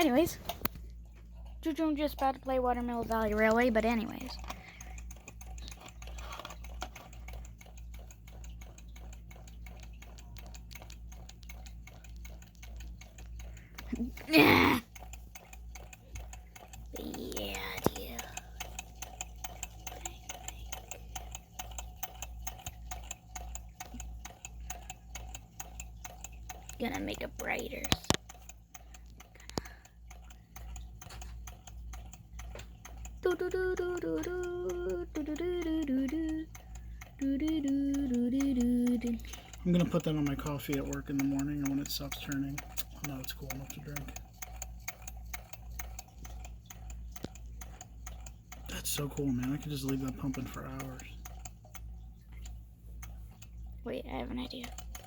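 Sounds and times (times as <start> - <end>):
pitched humming tone: 0.0 - 55.0
small engine mechanism ticking: 0.0 - 55.0.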